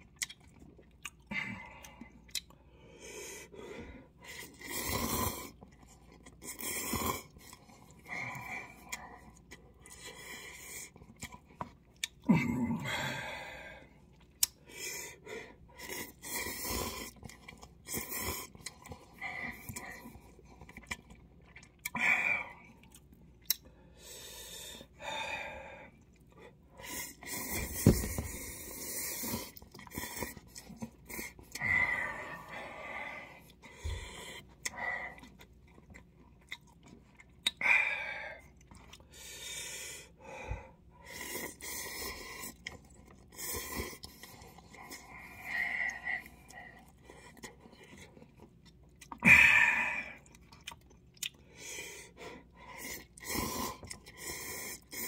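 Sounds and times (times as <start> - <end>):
chewing and slurping noodles: 0.0 - 12.2, 13.8 - 25.0, 25.9 - 37.6, 40.9 - 49.2, 50.1 - 55.0.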